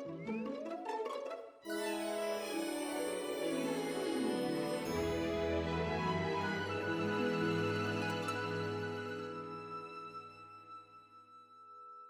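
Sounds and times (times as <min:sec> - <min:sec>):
soft sustained background music: 0:01.7 - 0:12.0.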